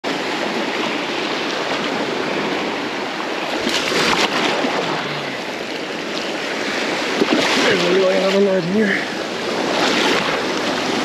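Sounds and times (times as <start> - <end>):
small waves washing at shore: 0.1 - 11.0.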